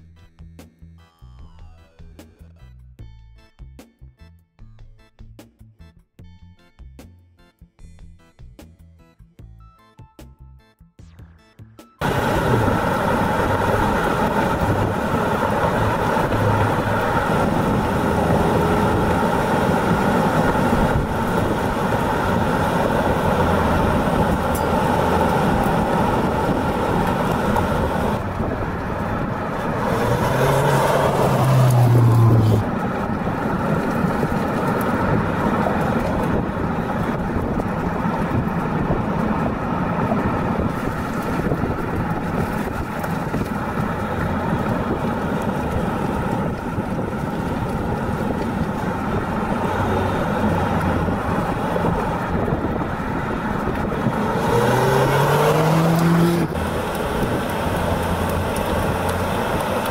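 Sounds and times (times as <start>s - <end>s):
car engine and tyre drone: 11.0s - 59.9s.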